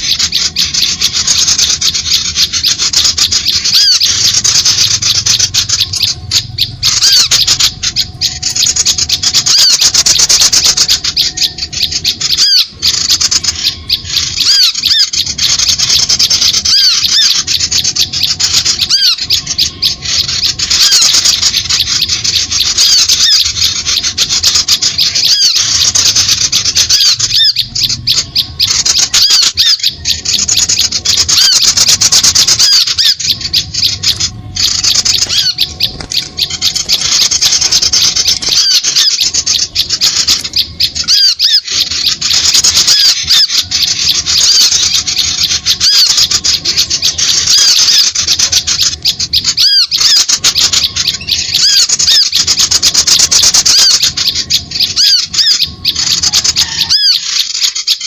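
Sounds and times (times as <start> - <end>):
small birds chattering and chirping: 0.0 - 58.0.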